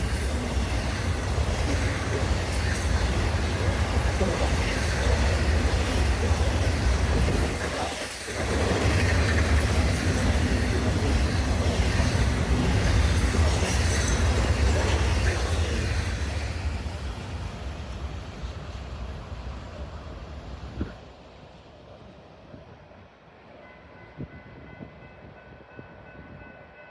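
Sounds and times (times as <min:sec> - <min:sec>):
train rumbling past: 0:00.0 - 0:26.9.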